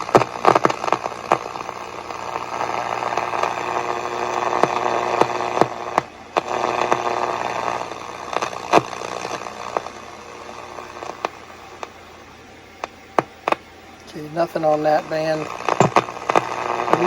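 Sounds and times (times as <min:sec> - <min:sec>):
radio static hissing and crackling: 0:00.0 - 0:17.0
sharp static clicks: 0:00.0 - 0:17.0.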